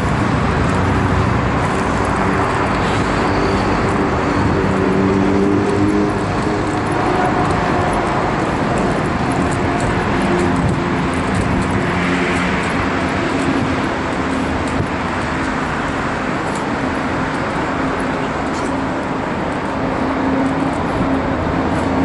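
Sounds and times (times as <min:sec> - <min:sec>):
road traffic noise: 0:00.0 - 0:22.0
wheelchair rolling over paving: 0:00.0 - 0:22.0.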